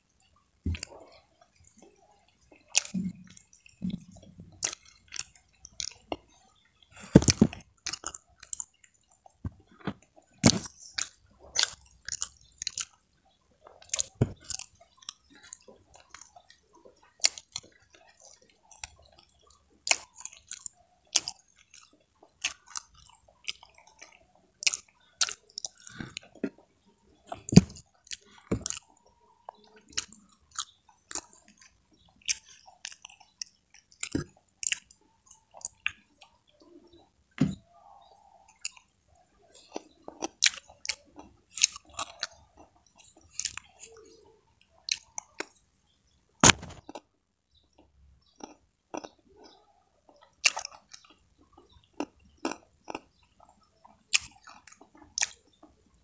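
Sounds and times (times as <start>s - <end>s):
chewing with wet smacks: 0.2s - 45.7s, 46.4s - 56.0s.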